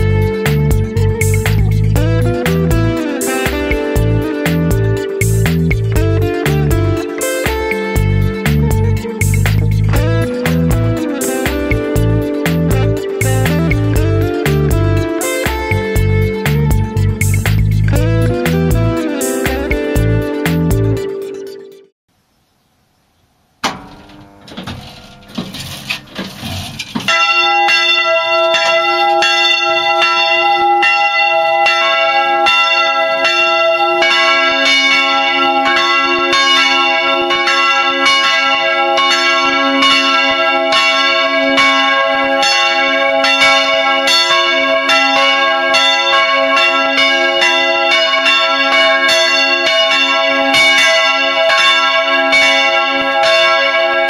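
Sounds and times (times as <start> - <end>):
church bells pealing: 0.0 - 21.8, 27.1 - 54.0.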